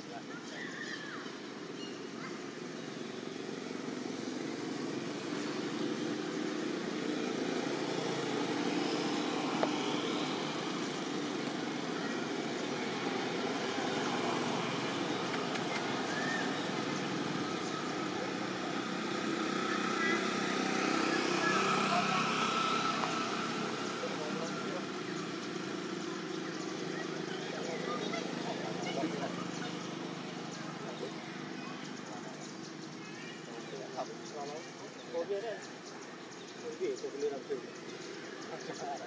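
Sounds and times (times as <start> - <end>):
rumble of motor vehicles: 0.0 - 39.0.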